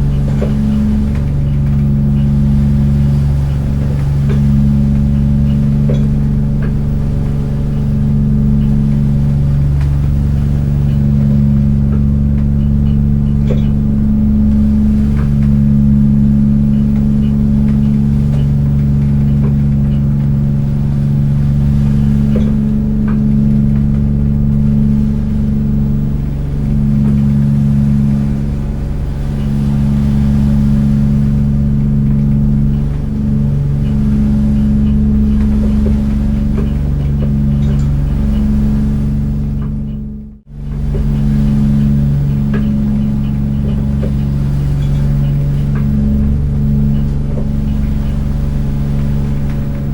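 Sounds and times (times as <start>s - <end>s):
boat engine idling: 0.0s - 49.9s.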